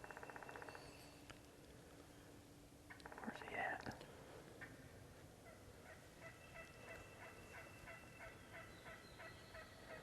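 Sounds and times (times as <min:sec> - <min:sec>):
faint wild turkey calling: 0:00.0 - 0:03.8, 0:04.5 - 0:10.0.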